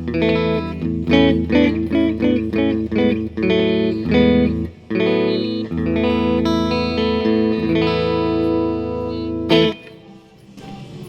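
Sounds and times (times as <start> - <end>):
clean electric guitar chords: 0.0 - 10.4.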